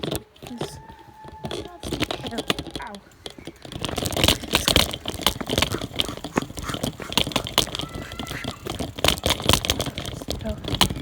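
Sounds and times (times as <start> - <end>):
knocking rattling and rustling: 0.0 - 11.0.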